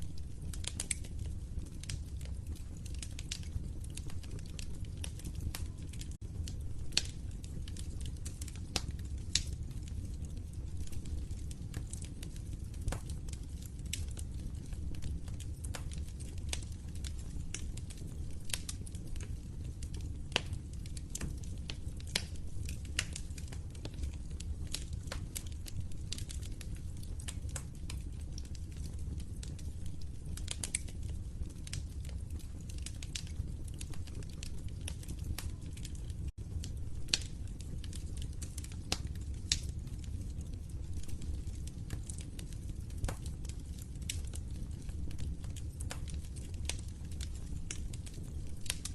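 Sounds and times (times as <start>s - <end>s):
fire crackling and popping: 0.0s - 48.9s
fire rumbling: 0.0s - 48.9s.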